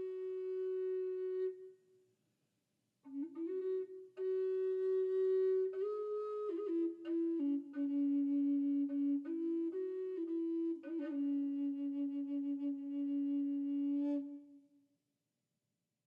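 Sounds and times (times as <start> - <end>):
slow flute-like melody: 0.0 - 2.0, 3.0 - 14.8.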